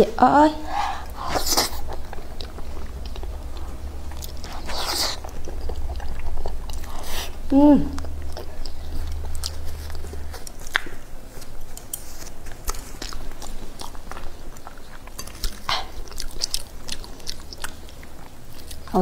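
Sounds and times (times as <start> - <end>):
low hum: 0.0 - 19.0
crisp chewing and crunching: 1.2 - 19.0.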